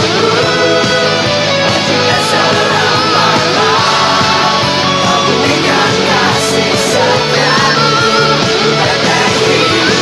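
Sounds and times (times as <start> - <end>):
band backing track: 0.0 - 10.0
lead guitar melody: 0.0 - 10.0.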